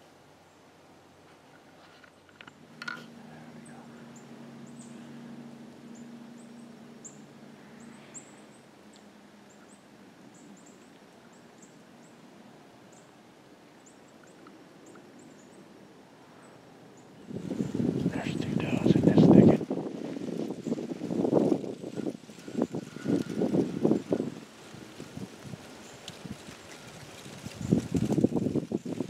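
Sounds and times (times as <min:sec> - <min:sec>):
low steady hum: 0:00.0 - 0:26.9
background hiss: 0:00.0 - 0:28.2.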